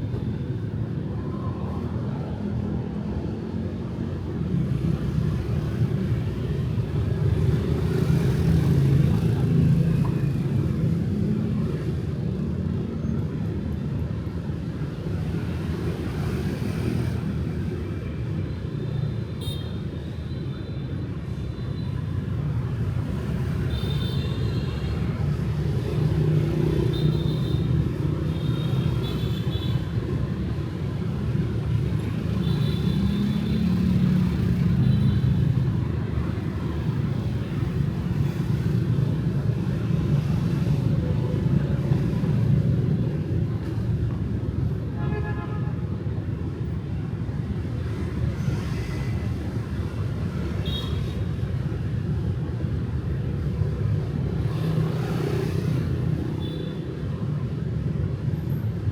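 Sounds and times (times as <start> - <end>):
motorbike and car traffic rumble: 0.0 - 58.9.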